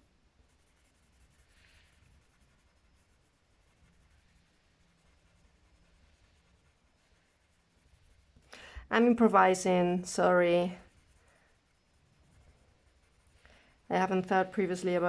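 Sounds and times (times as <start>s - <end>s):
pencil scratching on card: 0.4s - 14.8s.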